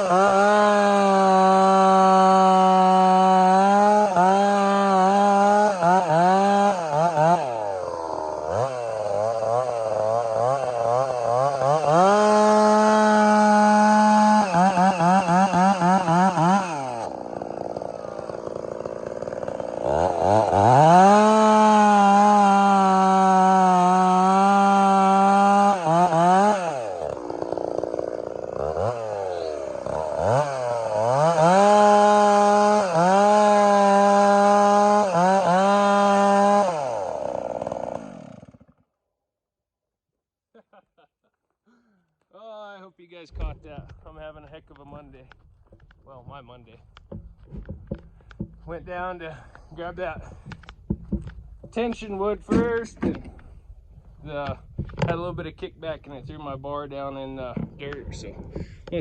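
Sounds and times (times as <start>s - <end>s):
chainsaw engine revving: 0.0s - 38.8s, 43.3s - 59.0s.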